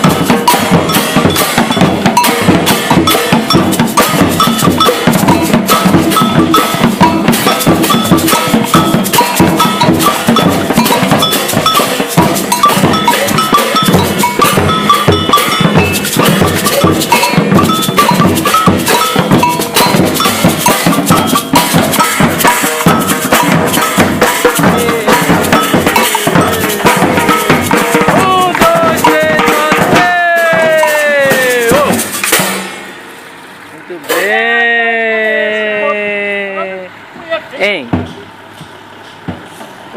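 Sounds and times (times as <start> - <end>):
cowbell ringing: 0.0 - 33.0
percussion ensemble drumming: 0.0 - 39.9.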